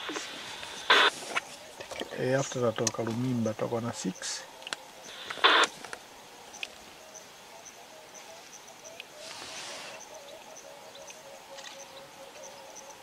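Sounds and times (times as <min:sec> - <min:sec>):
faint steady hum: 0:00.0 - 0:13.0
insects chirping: 0:00.0 - 0:13.0.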